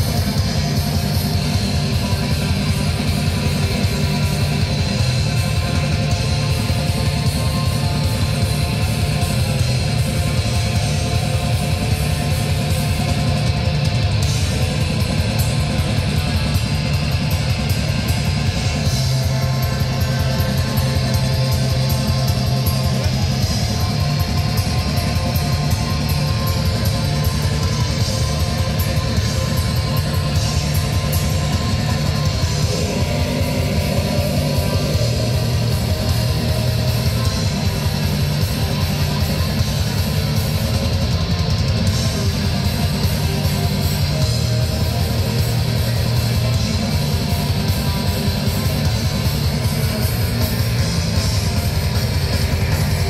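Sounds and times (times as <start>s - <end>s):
distorted electric guitars: 0.0s - 53.0s
drum kit: 0.0s - 53.0s.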